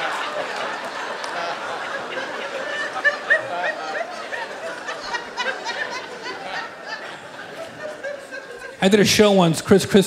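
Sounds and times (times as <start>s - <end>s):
audience laughing: 0.0s - 9.8s.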